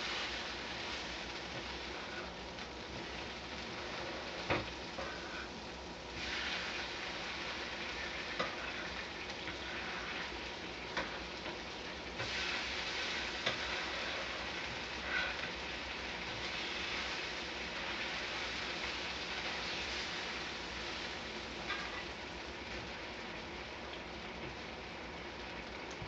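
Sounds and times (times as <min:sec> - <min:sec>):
food sizzling on a grill: 0:00.0 - 0:26.0.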